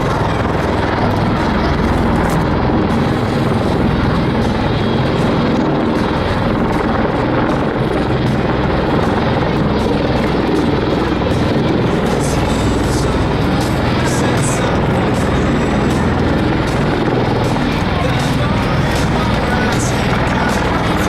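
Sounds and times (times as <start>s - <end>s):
aircraft rotor beat: 0.0s - 21.0s
turbine roar: 0.0s - 21.0s.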